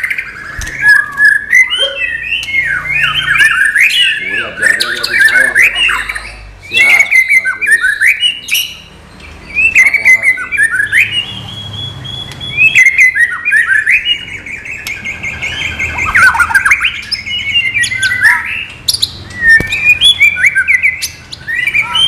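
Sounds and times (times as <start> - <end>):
songbird singing whistled phrases: 0.0 - 22.0.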